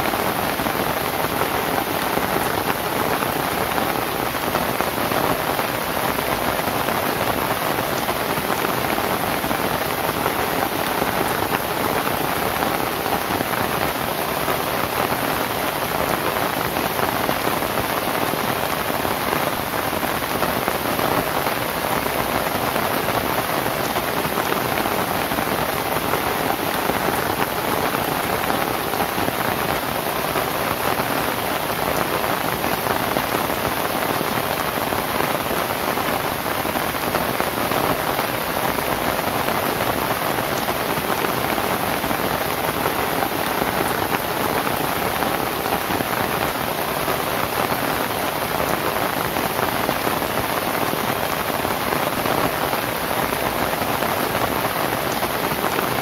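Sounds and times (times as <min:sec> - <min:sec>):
rain on a leaf roof: 0:00.0 - 0:56.0.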